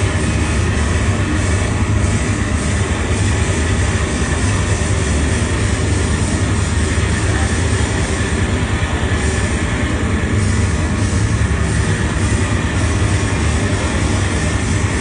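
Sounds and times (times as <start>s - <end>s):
loud distorted noise music: 0.0s - 15.0s.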